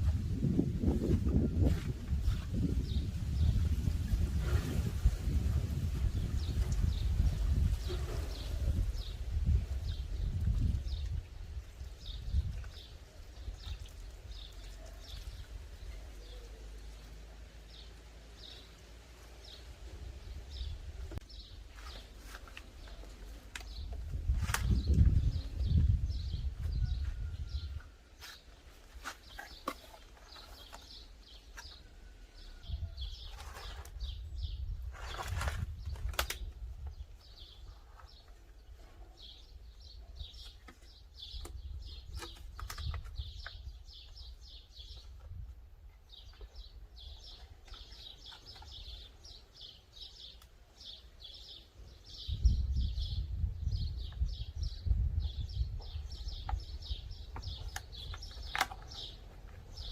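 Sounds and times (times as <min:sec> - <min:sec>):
small birds chirping: 0:00.1 - 0:59.9.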